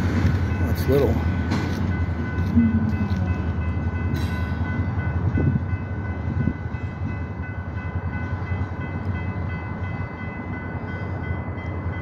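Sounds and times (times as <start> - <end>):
crossing bell ringing: 0.0 - 12.0
diesel locomotive rumbling: 0.0 - 12.0.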